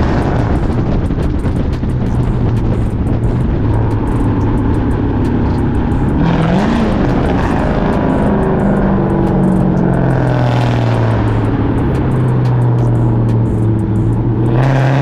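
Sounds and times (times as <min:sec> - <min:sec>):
car engine through open exhaust: 0:00.0 - 0:15.0.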